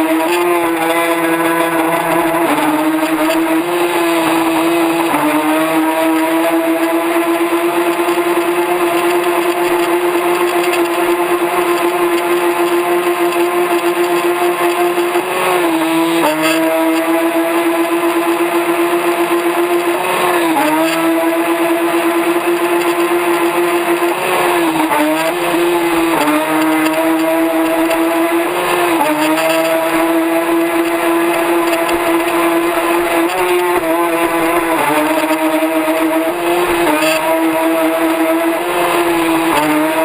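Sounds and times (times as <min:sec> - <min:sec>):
high-pitched motor whine: 0:00.0 - 0:40.0.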